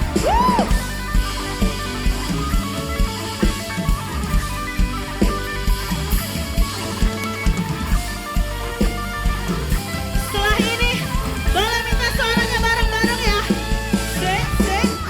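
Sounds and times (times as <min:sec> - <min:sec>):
drum kit beat: 0:00.0 - 0:15.0
guitar: 0:00.0 - 0:15.0.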